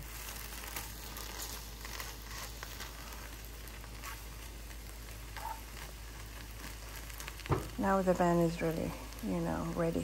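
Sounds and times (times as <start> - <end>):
crepe sizzling in a frying pan: 0.0 - 10.0.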